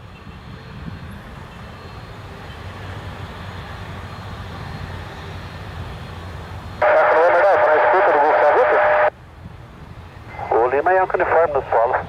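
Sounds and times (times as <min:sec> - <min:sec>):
light aircraft piston engine: 0:00.0 - 0:11.9.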